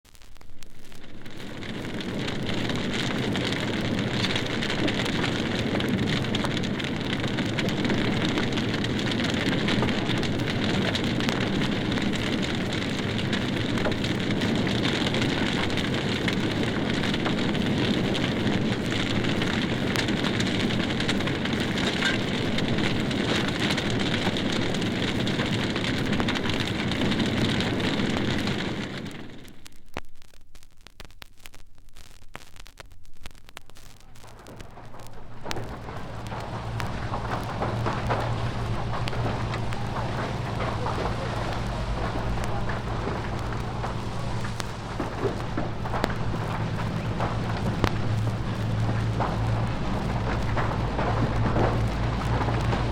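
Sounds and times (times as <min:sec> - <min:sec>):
large fire crackling and roaring: 0:00.0 - 0:52.9.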